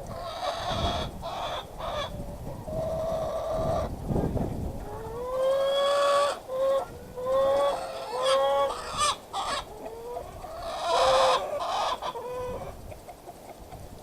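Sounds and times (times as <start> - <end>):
chickens calling: 0.0 - 14.0.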